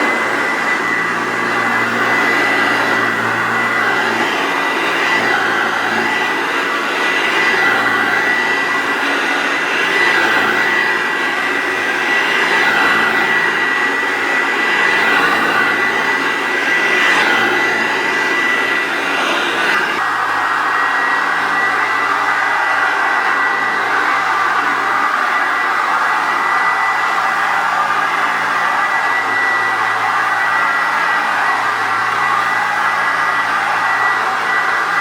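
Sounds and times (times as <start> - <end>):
vacuum cleaner airflow rush: 0.0 - 35.0
vacuum cleaner high whine: 0.0 - 35.0.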